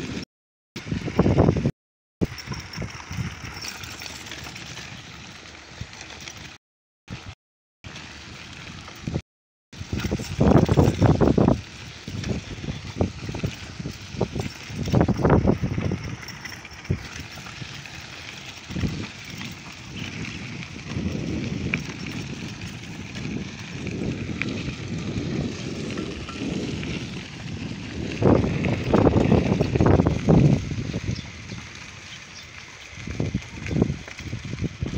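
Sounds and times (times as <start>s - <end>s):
bicycle tyres rumbling on gravel: 0.0s - 0.2s, 0.8s - 9.2s, 9.8s - 34.9s
bike rattling: 0.8s - 9.2s, 9.8s - 34.9s.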